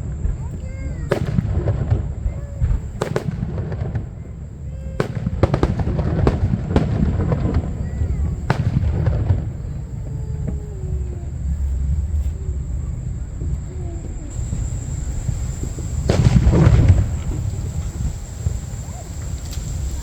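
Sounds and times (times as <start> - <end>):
fireworks bangs and cracks: 0.0 - 20.0
steady low rumble: 0.0 - 20.0.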